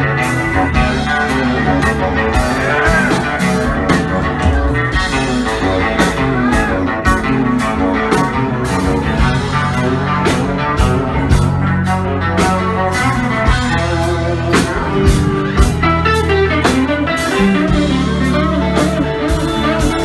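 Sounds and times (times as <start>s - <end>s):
bass: 0.0s - 20.0s
drum kit beat: 0.0s - 20.0s
electric guitar: 0.0s - 20.0s
keyboard: 0.0s - 20.0s.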